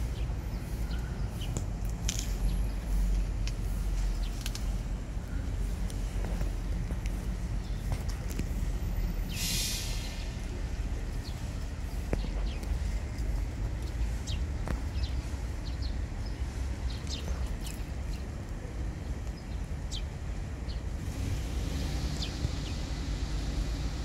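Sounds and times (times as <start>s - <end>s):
small birds chirping: 0.0s - 21.0s, 21.8s - 24.0s
steady low rumble: 0.0s - 24.0s.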